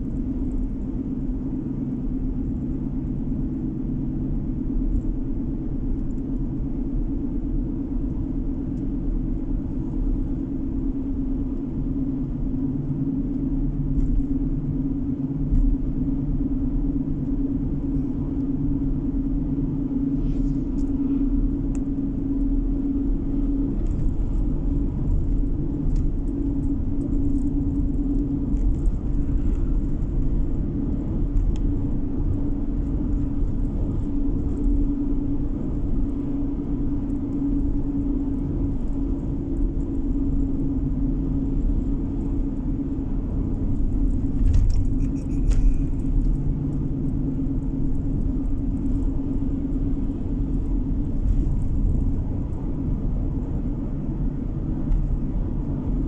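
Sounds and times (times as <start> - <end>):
car interior road and engine rumble: 0.0 - 56.0.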